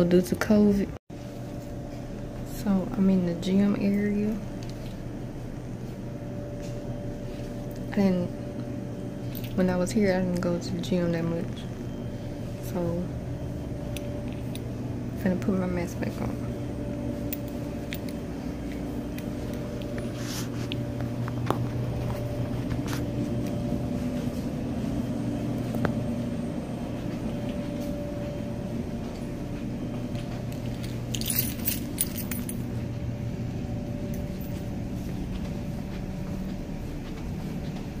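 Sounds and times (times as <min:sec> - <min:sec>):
low hum of held tones: 0:00.0 - 0:38.0.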